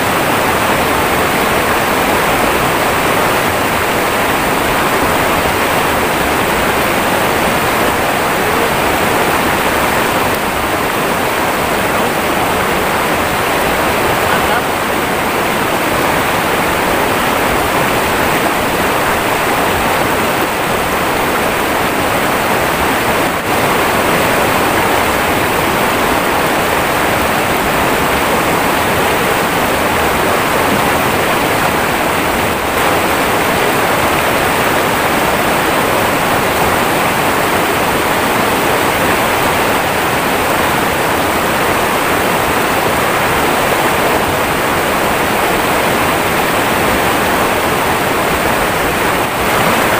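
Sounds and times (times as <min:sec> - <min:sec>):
water rushing over rocks: 0:00.0 - 0:49.9.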